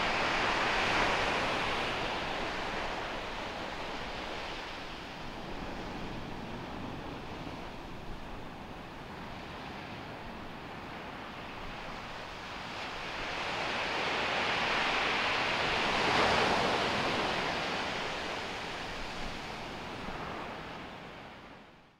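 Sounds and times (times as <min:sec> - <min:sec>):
ocean surf washing onto beach: 0:00.0 - 0:21.6.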